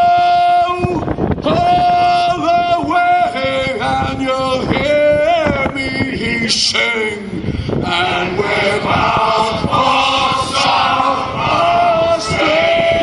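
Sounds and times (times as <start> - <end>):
men singing a sea shanty: 0.0 - 13.0.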